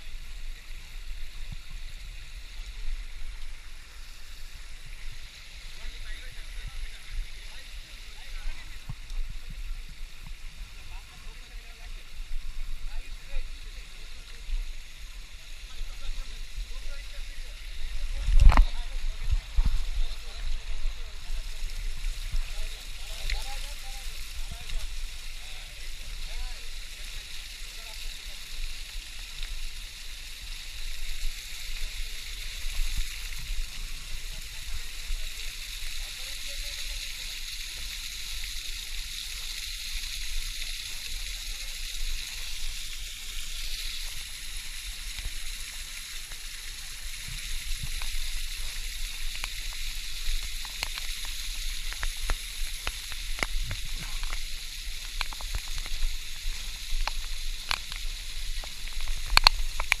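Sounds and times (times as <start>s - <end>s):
waterfall hissing: 0.0s - 60.0s.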